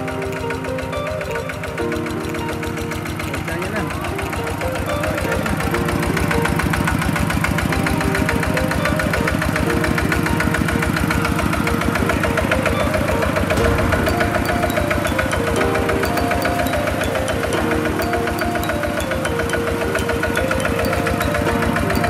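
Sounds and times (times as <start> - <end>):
diesel engine chugging: 0.0 - 22.0.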